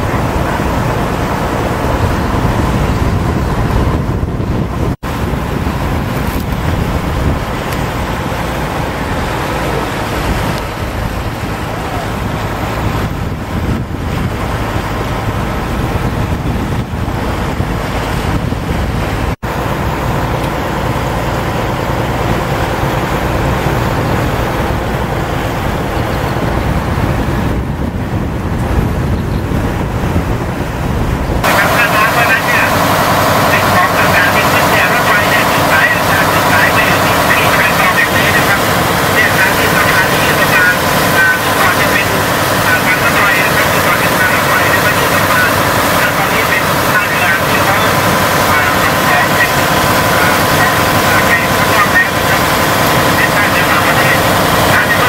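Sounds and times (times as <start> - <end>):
boat engine running: 0.0 - 55.0
rushing water: 0.0 - 55.0
wind buffeting microphone: 0.0 - 55.0.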